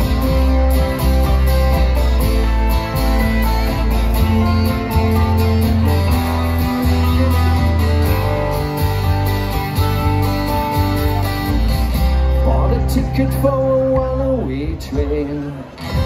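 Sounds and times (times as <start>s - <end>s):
double bass notes: 0.0s - 16.0s
strummed acoustic guitars: 0.0s - 16.0s.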